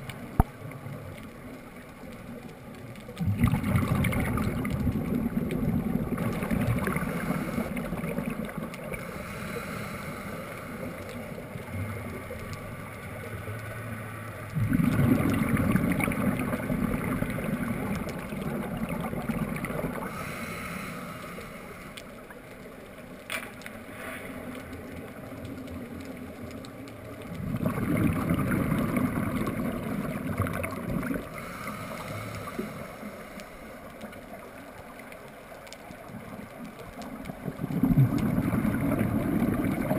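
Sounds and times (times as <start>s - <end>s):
underwater exhaled bubbles gurgling: 0.0s - 39.9s.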